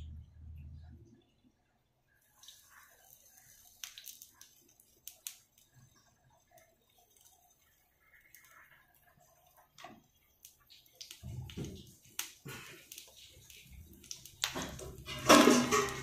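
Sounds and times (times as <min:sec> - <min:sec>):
eggs frying in oil: 0:01.3 - 0:16.0
oil pouring into pan: 0:02.2 - 0:16.0.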